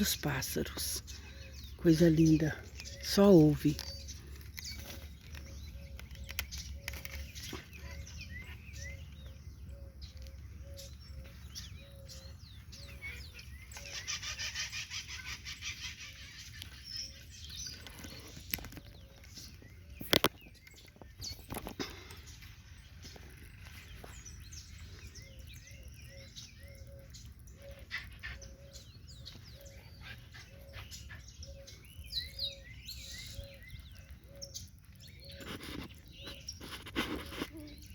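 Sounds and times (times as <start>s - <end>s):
birds singing and calling: 0.0s - 37.9s.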